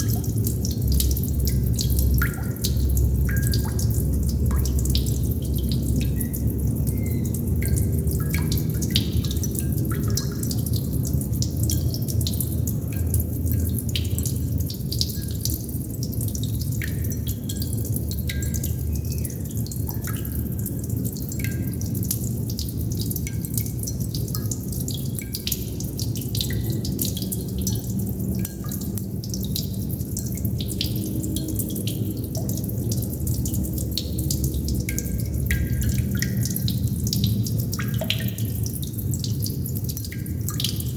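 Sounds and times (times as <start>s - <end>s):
water droplets dripping: 0.0s - 40.9s.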